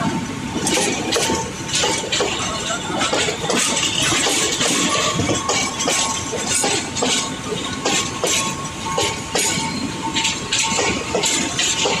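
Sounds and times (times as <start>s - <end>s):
train wheels knocking over rail joints: 0.5s - 12.0s.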